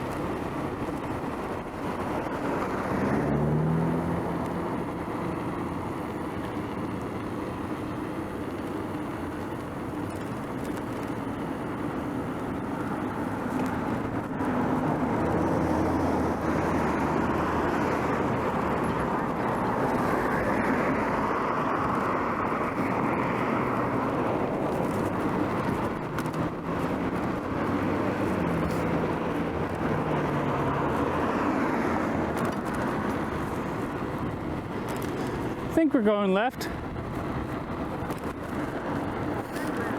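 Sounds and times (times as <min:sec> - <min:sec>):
passing cars and tyres: 0:00.0 - 0:39.9.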